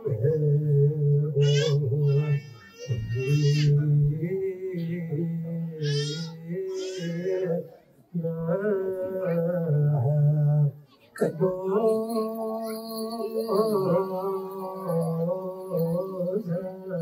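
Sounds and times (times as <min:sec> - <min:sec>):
voices singing a chant-like hymn: 0:00.0 - 0:17.0.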